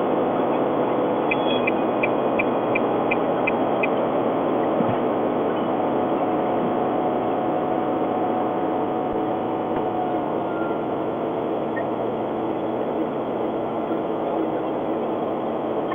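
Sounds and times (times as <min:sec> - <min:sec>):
road and drivetrain noise: 0:00.0 - 0:15.9.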